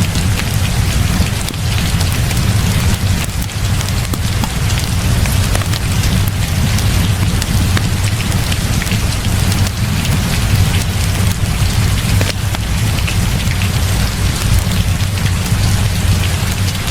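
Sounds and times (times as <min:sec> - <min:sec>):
heavy rain: 0:00.0 - 0:16.9
log fire crackling: 0:00.0 - 0:16.9.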